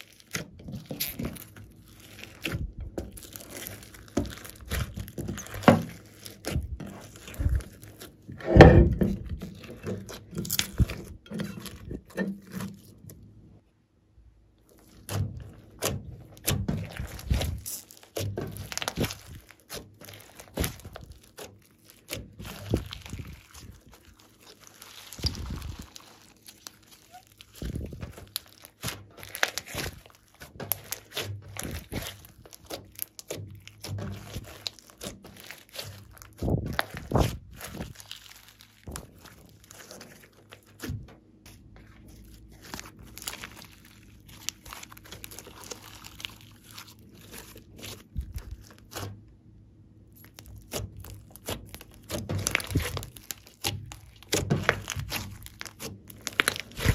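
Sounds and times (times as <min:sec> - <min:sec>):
slime squelching: 0:00.0 - 0:13.6, 0:14.6 - 0:56.9.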